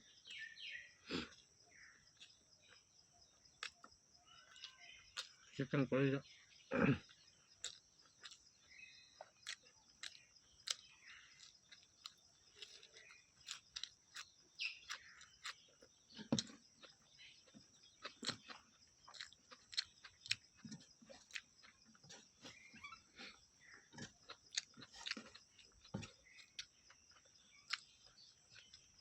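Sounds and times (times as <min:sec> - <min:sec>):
person chewing food: 0:01.1 - 0:05.5, 0:07.0 - 0:29.0.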